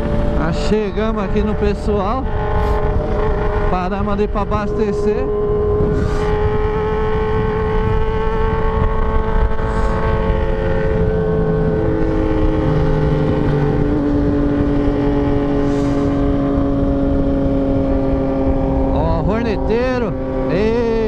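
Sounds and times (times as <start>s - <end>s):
motorcycle engine cruising: 0.0s - 21.0s
wind rush on microphone: 0.0s - 21.0s.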